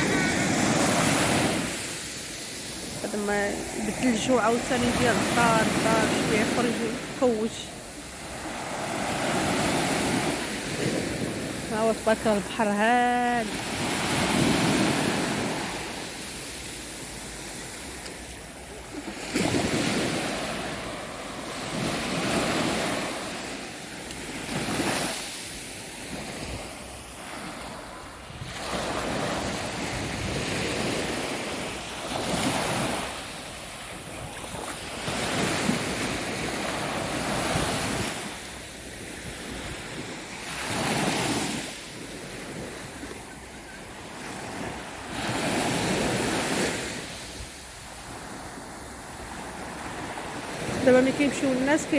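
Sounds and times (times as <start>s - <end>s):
sea waves washing onto shore: 0.0s - 51.9s.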